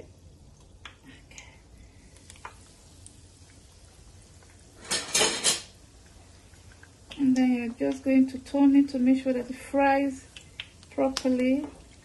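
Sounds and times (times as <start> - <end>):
corn dogs frying in oil: 0.0 - 12.0.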